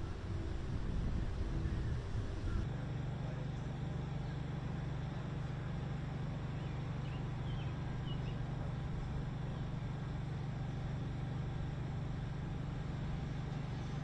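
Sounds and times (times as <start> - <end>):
distant city traffic hum: 0.0 - 14.0.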